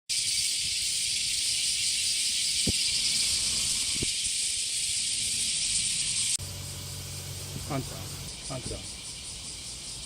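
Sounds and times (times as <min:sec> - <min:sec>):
cicadas chorus: 0:00.1 - 0:10.0.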